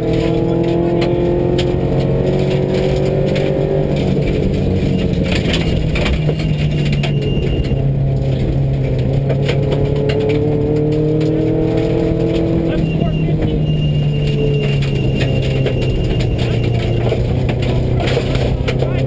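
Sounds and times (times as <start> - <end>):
interior rattles: 0.0 - 19.0
rally car engine pulling hard: 0.0 - 19.0.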